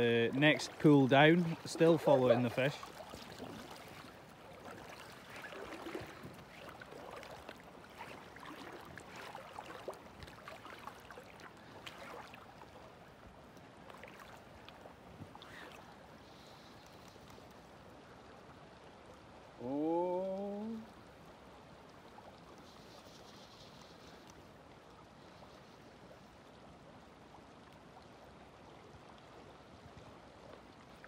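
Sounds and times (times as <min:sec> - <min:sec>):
river water lapping: 0:00.0 - 0:31.0
small water splashes: 0:00.0 - 0:31.0.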